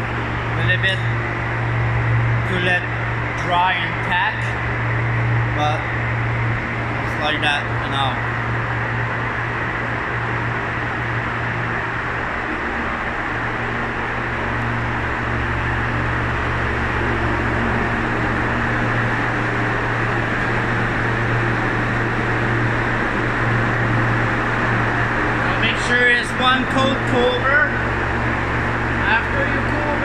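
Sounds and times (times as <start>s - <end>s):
ventilation fans running: 0.0s - 30.0s.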